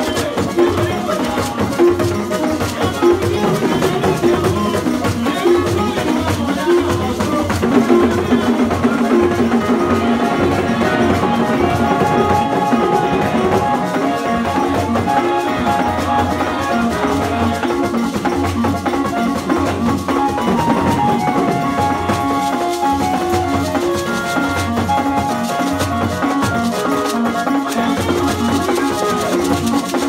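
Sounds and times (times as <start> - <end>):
church praise music: 0.0 - 30.0
drums: 0.0 - 30.0
rattling percussion: 0.0 - 30.0.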